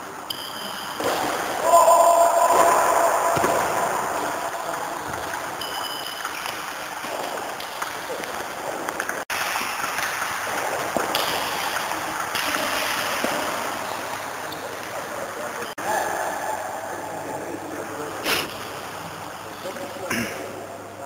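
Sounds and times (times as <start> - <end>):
hubbub of sports hall: 0.0 - 21.0.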